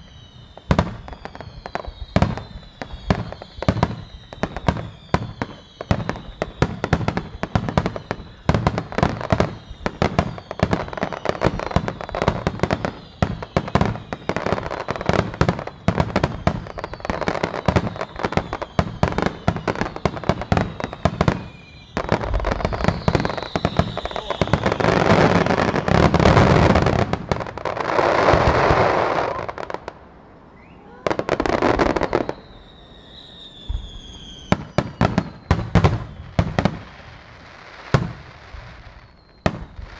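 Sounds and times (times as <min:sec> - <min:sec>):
fireworks crackling and bangs: 0:00.0 - 0:39.9
fireworks whistling: 0:00.0 - 0:39.9
heavy firework blasts: 0:00.0 - 0:39.9.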